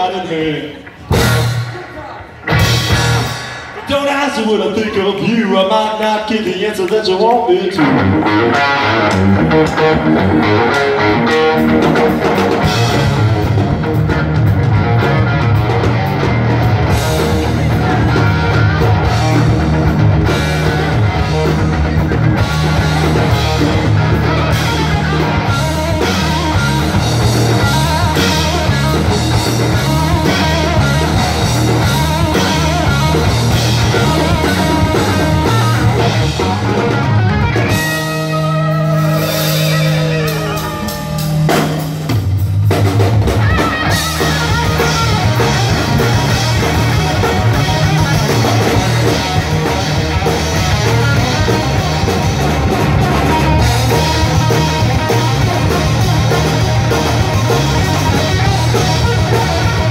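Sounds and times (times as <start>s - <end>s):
bass guitar: 0.0s - 59.9s
electric guitar lead: 0.0s - 59.9s
drum kit: 0.8s - 5.0s, 7.8s - 59.9s.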